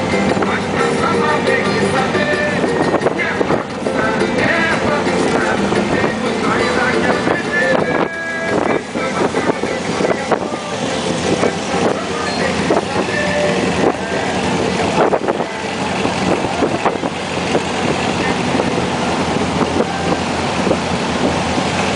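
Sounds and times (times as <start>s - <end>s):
buggy engine running: 0.0s - 21.9s
wind on microphone: 0.0s - 21.9s.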